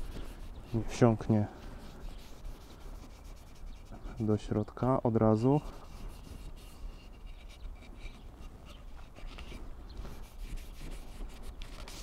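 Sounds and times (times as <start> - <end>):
rag rubbing wooden handle: 0.0 - 4.4, 5.2 - 12.0.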